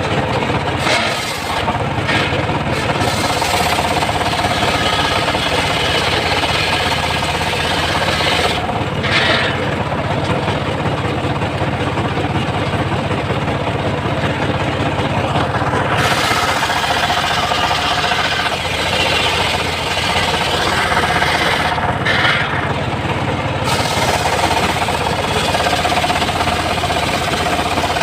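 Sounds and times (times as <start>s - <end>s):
sawmill engine running: 0.0s - 28.0s.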